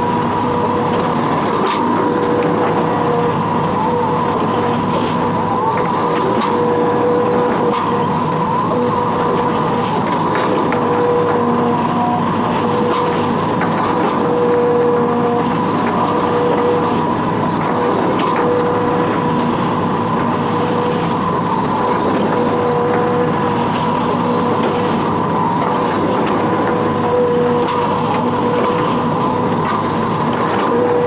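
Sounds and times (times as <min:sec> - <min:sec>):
diesel engine running: 0:00.0 - 0:31.0
humming whine: 0:00.0 - 0:31.0.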